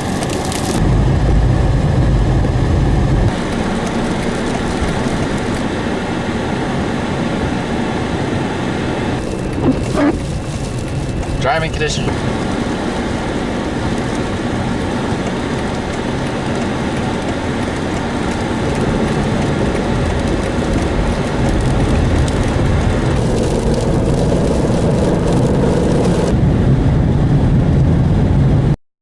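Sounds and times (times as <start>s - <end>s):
car road rumble and tyre hiss: 0.0s - 28.6s.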